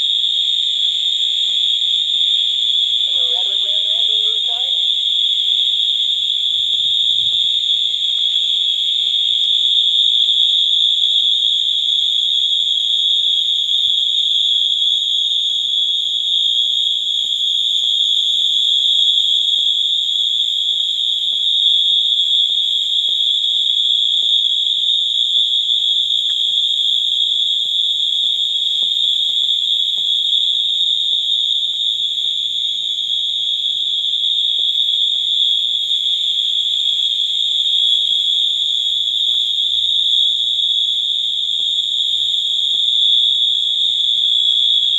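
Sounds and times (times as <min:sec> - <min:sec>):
fire alarm horns: 0:00.0 - 0:44.9.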